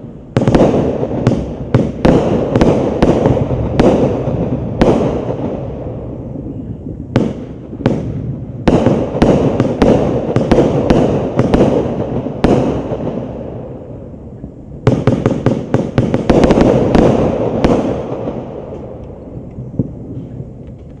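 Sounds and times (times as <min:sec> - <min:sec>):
firework bangs with echo: 0:00.0 - 0:14.1, 0:14.8 - 0:19.2.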